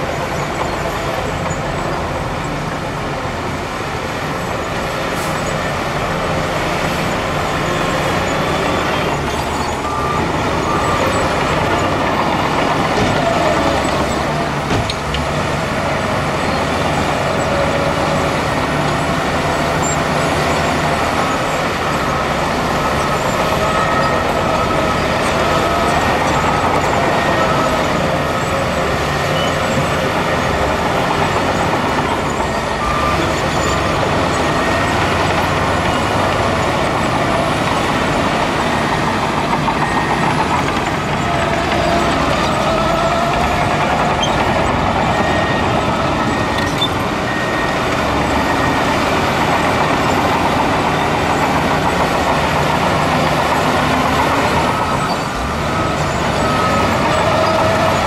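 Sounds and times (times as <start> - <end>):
diesel machinery engines running: 0.0 - 58.0.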